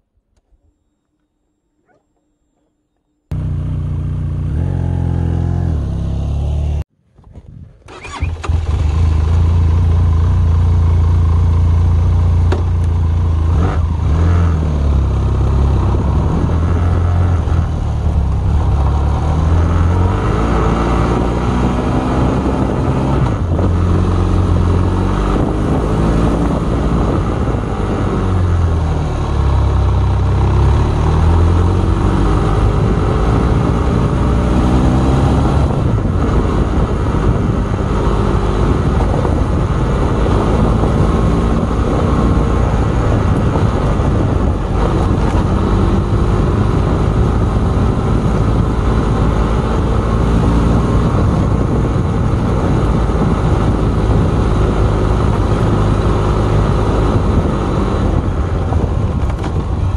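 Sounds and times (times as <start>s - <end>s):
motorcycle engine running: 3.3s - 6.8s, 8.0s - 59.9s.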